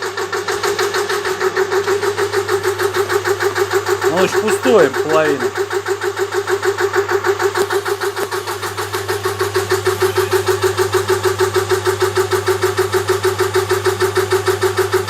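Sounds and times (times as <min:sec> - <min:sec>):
air compressor pulsing: 0:00.0 - 0:15.0.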